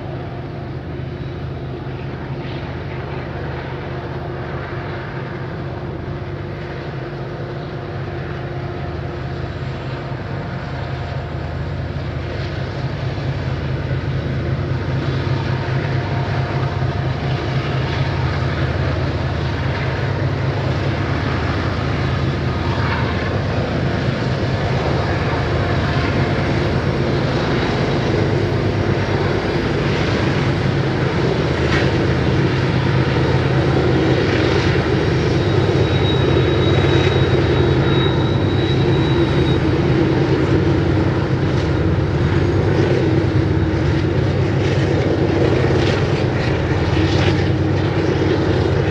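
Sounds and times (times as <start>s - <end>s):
diesel locomotive engine drone: 0.0s - 48.9s.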